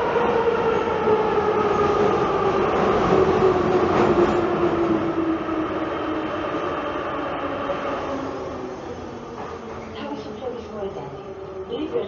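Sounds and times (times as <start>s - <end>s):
train rumbling in a tunnel: 0.0s - 12.0s.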